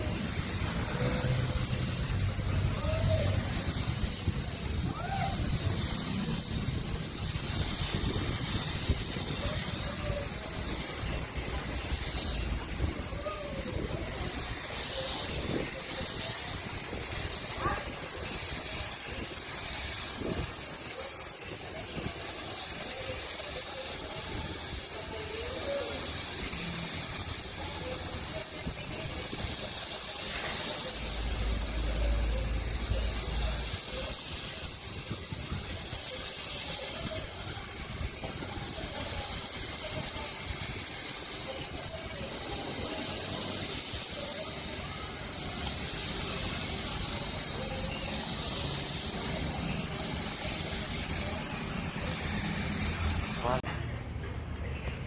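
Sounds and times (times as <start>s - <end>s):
hissing spray: 0.0s - 53.6s.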